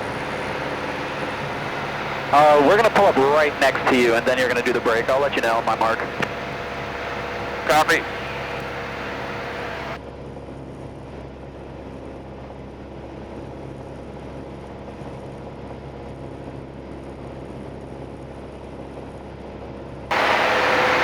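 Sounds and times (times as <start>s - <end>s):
airplane engine and propeller drone: 0.0s - 21.0s.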